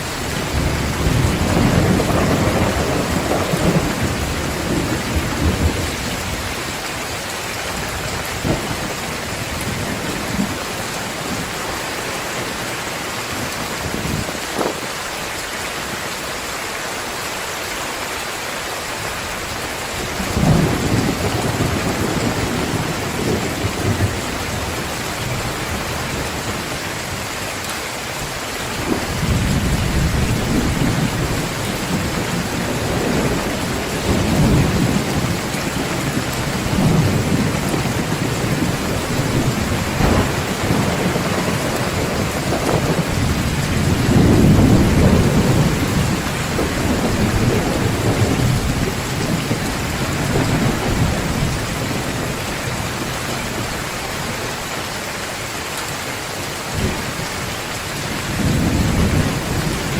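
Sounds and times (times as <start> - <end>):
thunder rumbling: 0.0 - 14.9, 19.4 - 27.1, 28.8 - 54.7, 57.8 - 59.9
heavy rain falling: 0.0 - 59.9.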